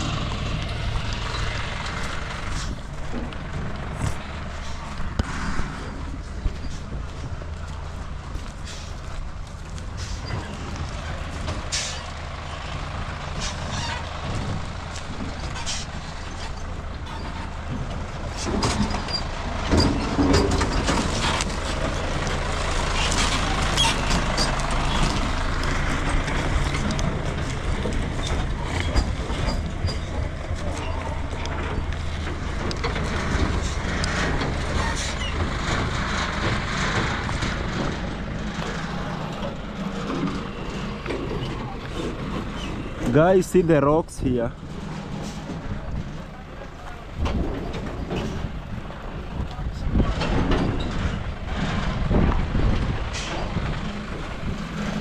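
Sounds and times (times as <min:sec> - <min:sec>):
rattles and knocks: 0:00.0 - 0:55.0
truck engine running: 0:00.0 - 0:55.0.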